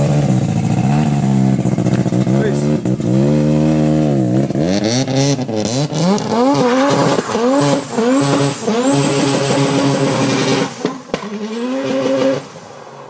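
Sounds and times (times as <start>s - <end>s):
rotary engine revving: 0.0s - 13.0s.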